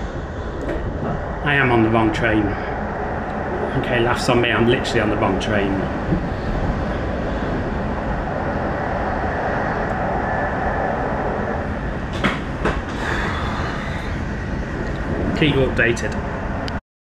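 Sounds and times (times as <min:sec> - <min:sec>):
train wheels rumbling on rails: 0:00.0 - 0:16.8.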